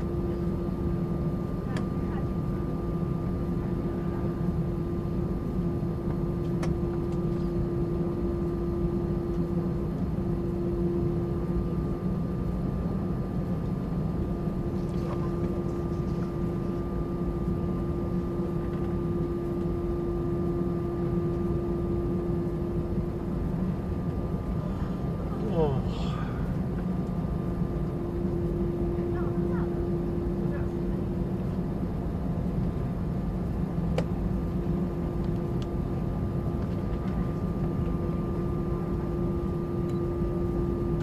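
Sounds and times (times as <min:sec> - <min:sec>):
airplane cabin hum: 0:00.0 - 0:41.0.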